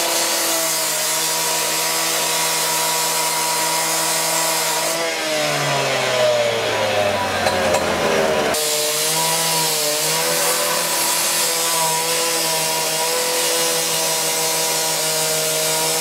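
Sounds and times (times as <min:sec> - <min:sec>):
cut-off saw grinding steel: 0:00.0 - 0:16.0.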